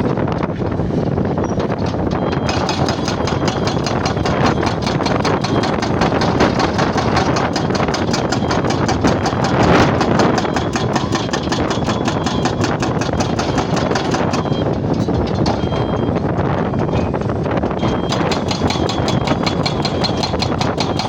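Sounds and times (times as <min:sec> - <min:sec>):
jackhammer hammering: 0:02.0 - 0:16.0, 0:17.8 - 0:21.0.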